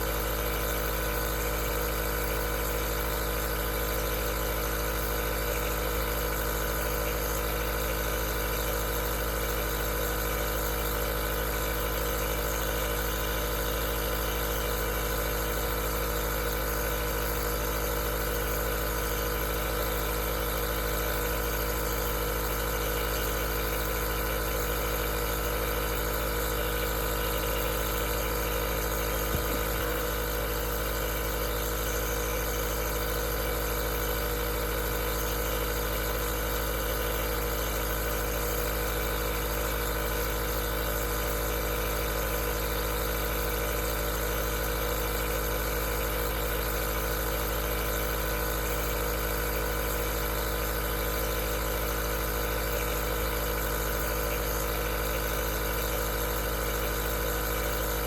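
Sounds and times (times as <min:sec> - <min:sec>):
nebulizer machine hum: 0:00.0 - 0:58.0.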